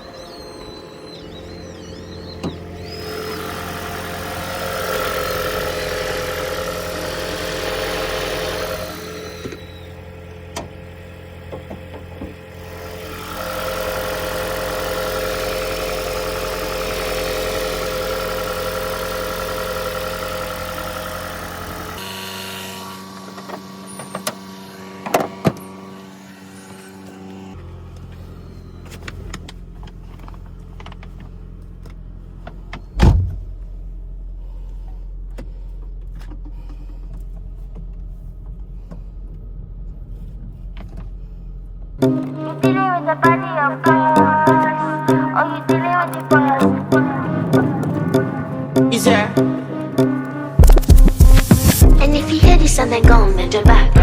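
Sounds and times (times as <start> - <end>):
car hum and whine: 0.0 - 22.1, 23.2 - 54.0.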